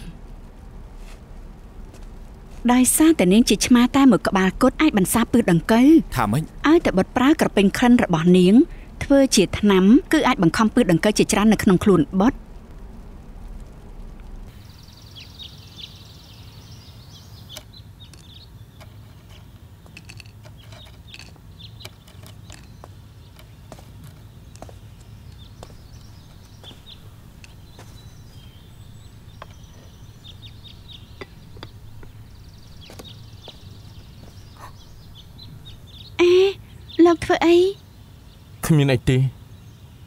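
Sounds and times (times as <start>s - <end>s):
low outdoor rumble: 0.0s - 40.0s
small birds chirping: 0.0s - 40.0s.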